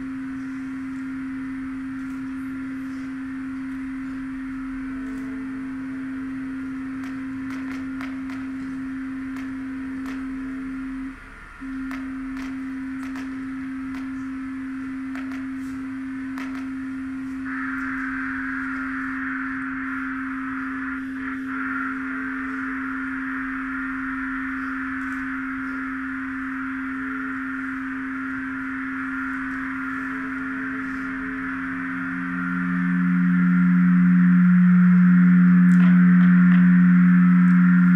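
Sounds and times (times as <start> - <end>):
low electronic sine tone: 0.0 - 37.9
high hissing noise: 2.0 - 37.9.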